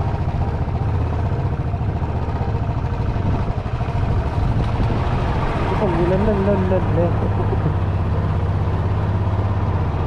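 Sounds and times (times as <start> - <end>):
road and wind noise: 0.0 - 10.0
vehicle engine droning: 0.0 - 10.0.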